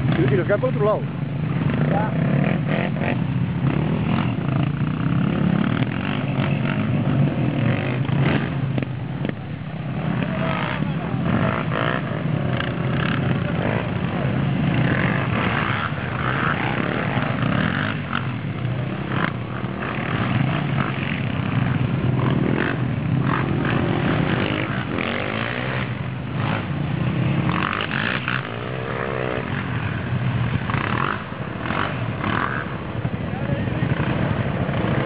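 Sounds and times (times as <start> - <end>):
quad engine revving: 1.6 - 35.0.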